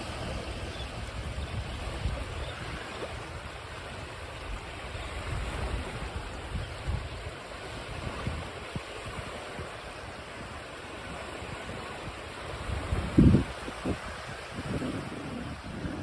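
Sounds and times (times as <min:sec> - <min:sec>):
ocean surf washing: 0:00.0 - 0:16.0
wind on microphone: 0:00.0 - 0:16.0.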